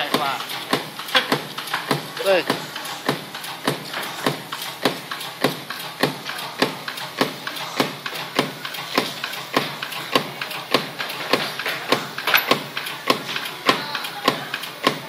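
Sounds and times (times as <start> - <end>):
die-cutting machine clacking: 0.0 - 15.0.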